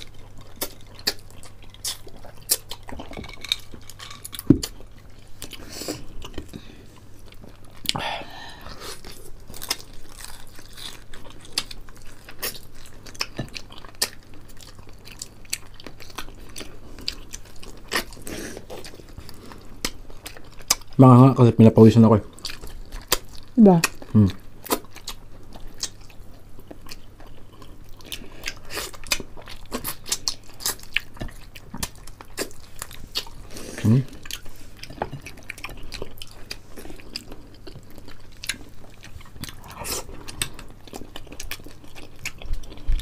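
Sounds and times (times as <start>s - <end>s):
chewing crispy fried chicken: 0.0s - 43.0s.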